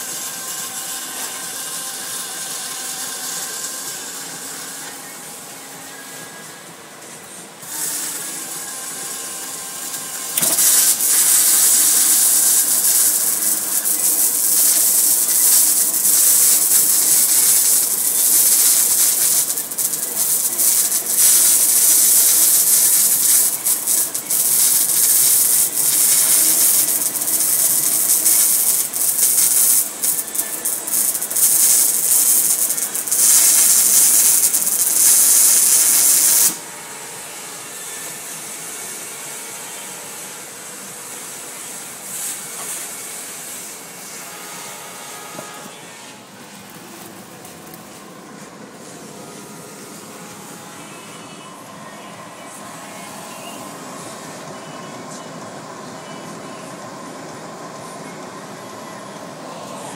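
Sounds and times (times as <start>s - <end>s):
welding arc crackling sizzle: 0.0s - 54.8s.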